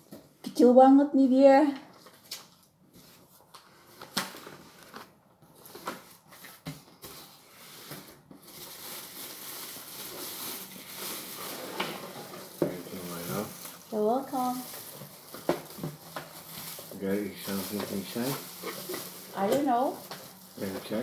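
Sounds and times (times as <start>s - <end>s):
plastic wrapping rustling: 1.9s - 21.0s.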